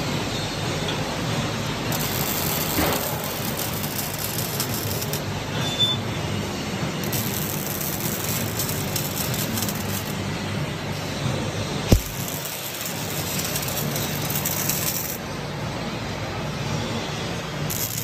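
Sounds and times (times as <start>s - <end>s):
workshop noise: 0.0s - 18.0s
welding arcs hissing and crackling: 1.4s - 15.5s, 17.4s - 18.0s.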